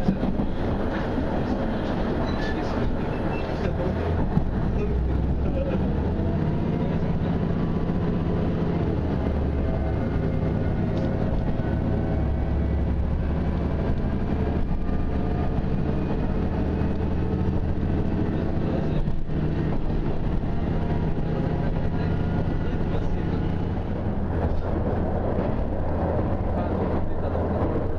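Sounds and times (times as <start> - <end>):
railcar engine and running gear drone: 0.0 - 27.9.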